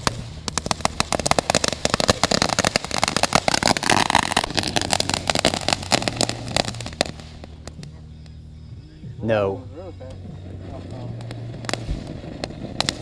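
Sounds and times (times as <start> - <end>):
firework crackling and hissing: 0.0 - 13.0.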